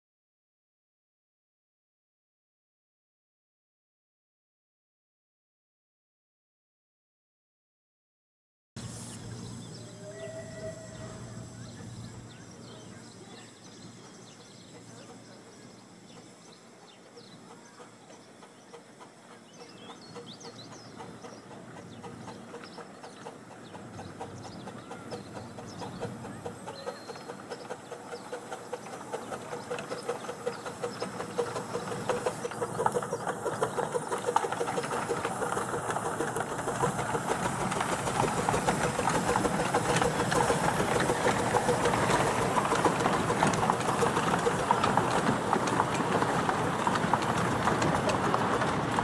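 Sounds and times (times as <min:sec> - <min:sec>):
steam locomotive chuffing: 0:08.8 - 0:49.0
carriages clattering on rails: 0:09.4 - 0:49.0.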